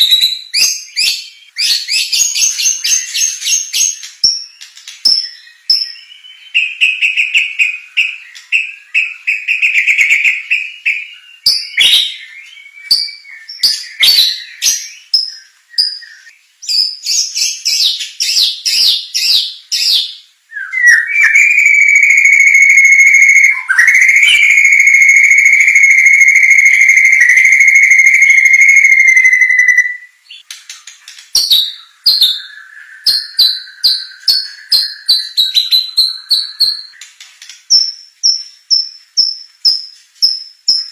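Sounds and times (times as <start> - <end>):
bird singing whistles and trills: 0.0 - 30.5, 31.4 - 37.1.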